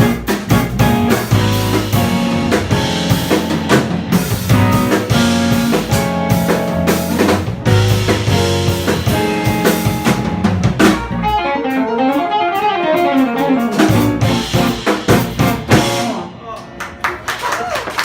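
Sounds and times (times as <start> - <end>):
jazz band playing: 0.0 - 16.5
drum kit: 0.0 - 16.6.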